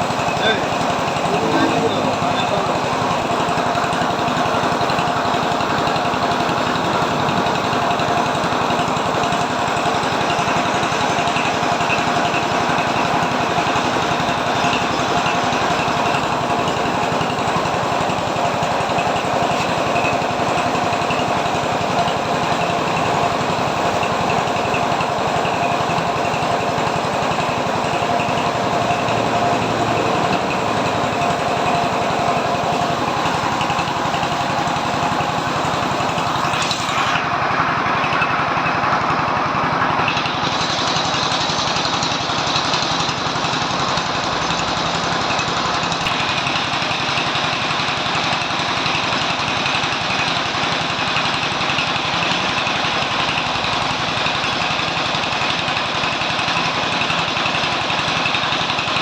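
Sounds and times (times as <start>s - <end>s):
engine running with rattle: 0.0s - 59.0s.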